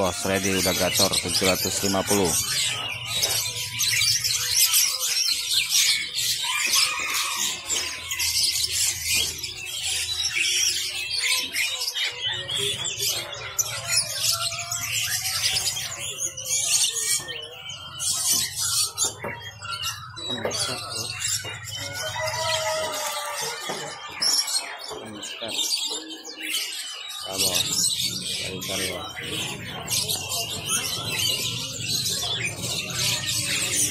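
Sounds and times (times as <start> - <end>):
birds chirping and twittering: 0.0 - 33.9.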